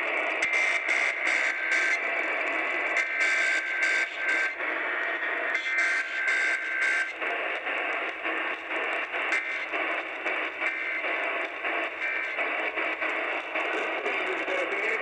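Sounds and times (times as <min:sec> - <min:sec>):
tinny radio broadcast with hiss: 0:00.0 - 0:15.0.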